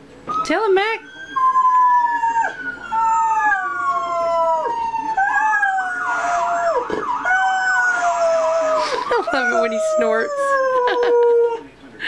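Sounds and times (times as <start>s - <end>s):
emergency vehicle siren: 0.3s - 10.5s
dog howling: 1.0s - 11.6s.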